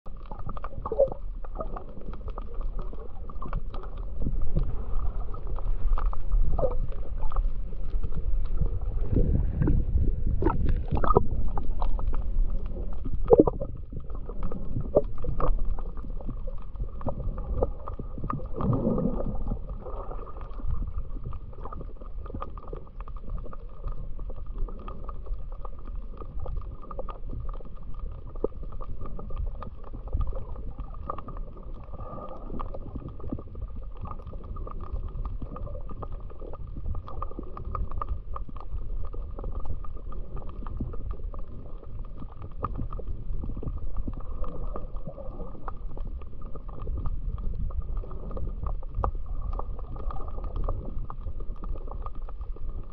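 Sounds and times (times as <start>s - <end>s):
muffled underwater rumble: 0.0s - 52.9s
underwater clicks: 0.1s - 52.9s
water gurgles: 0.1s - 52.9s.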